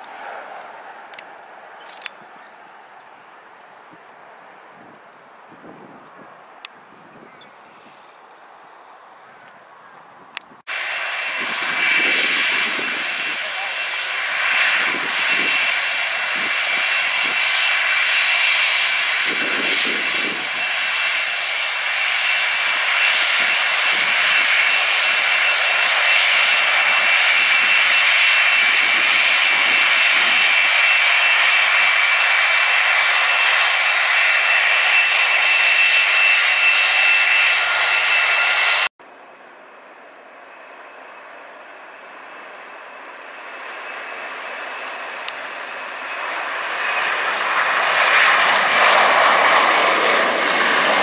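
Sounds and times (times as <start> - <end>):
jet engines roaring: 0.0 - 6.9, 10.2 - 38.9, 39.5 - 51.0.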